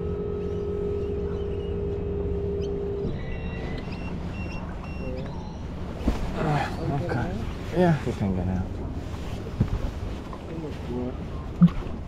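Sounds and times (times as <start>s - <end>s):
outboard motor rumbling: 0.0s - 12.0s
outboard motor whine: 0.0s - 12.0s.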